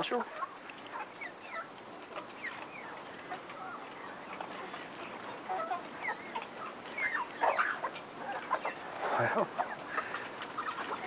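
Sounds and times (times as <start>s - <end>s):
chickens clucking: 0.0s - 11.0s
steady background hiss: 0.0s - 11.0s.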